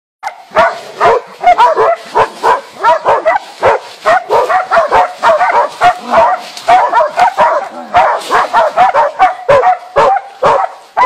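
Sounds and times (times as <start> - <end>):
dogs barking rapidly: 0.2 - 11.0.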